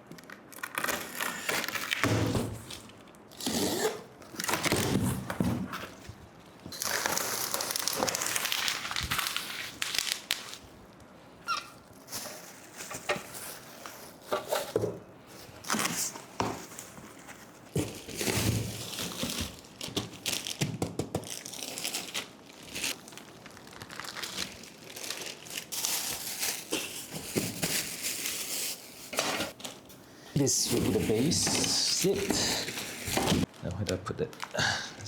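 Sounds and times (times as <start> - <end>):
plastic packaging crinkling and tearing: 0.0 - 14.4, 15.3 - 34.6.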